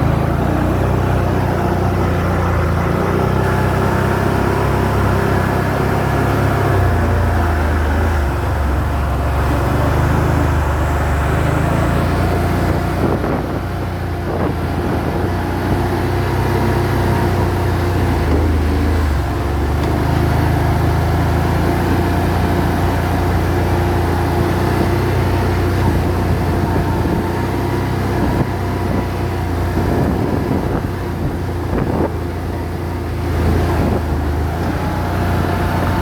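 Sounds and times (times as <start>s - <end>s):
quad bike engine rumbling: 0.0s - 36.0s.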